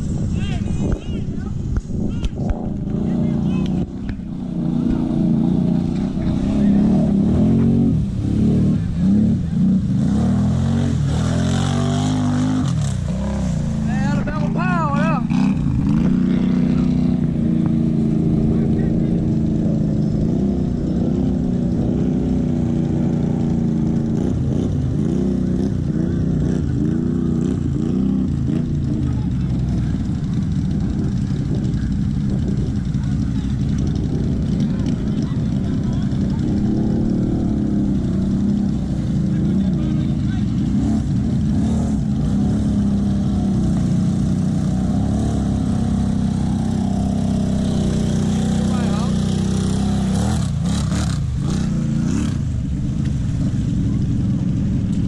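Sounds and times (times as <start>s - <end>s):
vehicle engine revving: 1.8s - 55.0s.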